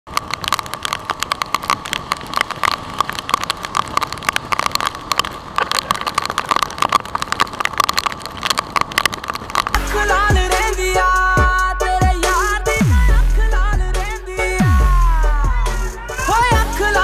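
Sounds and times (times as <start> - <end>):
raindrops ticking on camera housing: 0.1 - 17.0.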